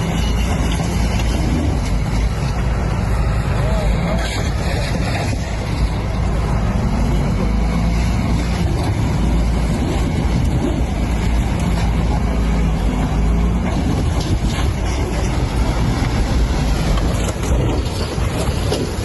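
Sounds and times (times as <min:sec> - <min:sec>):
heavy vehicle rumbling: 0:00.0 - 0:19.0.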